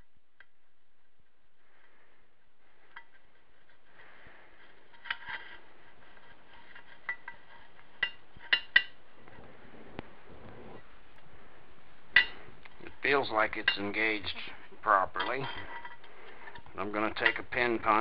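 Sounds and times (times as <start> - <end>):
light metal scraping: 1.6 - 10.9, 12.2 - 18.0.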